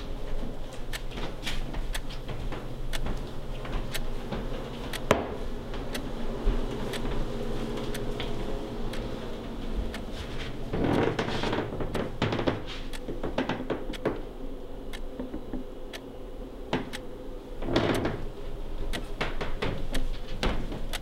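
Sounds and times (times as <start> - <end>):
faint clicks and creaks: 0.0 - 5.2, 6.7 - 14.3, 16.8 - 21.0
low steady hum: 0.0 - 21.0.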